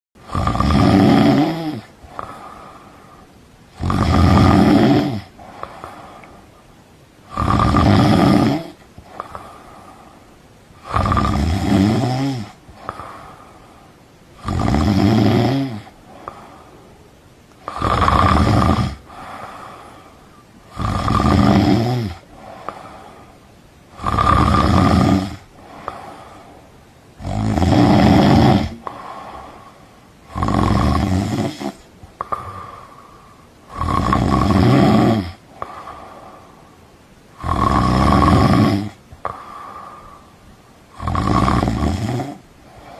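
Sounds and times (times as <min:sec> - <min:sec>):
person snoring loudly: 0:00.2 - 0:06.3, 0:07.3 - 0:10.2, 0:10.8 - 0:13.6, 0:14.4 - 0:16.7, 0:17.6 - 0:23.3, 0:23.9 - 0:26.5, 0:27.2 - 0:36.4, 0:37.3 - 0:40.3, 0:40.9 - 0:42.9
quiet breathing: 0:00.2 - 0:42.9.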